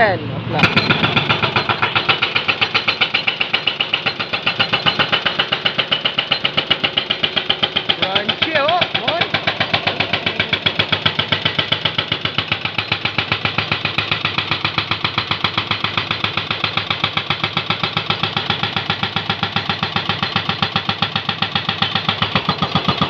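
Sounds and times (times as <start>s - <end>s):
hydraulic breaker hammering: 0.5s - 23.0s.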